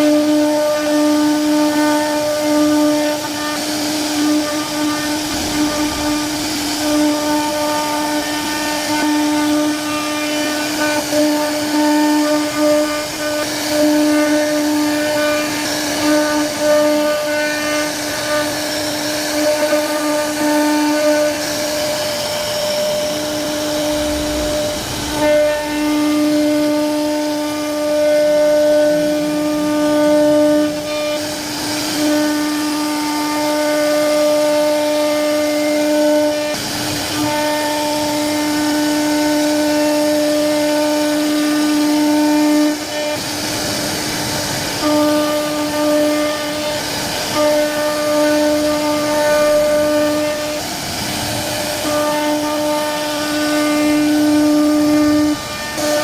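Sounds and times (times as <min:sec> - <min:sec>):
router spindle carving wood: 0:00.0 - 0:56.0.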